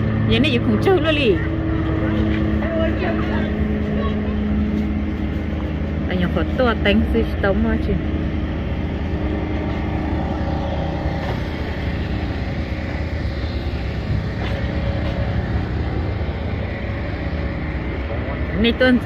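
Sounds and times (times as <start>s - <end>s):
motor humming steadily: 0.0s - 19.0s.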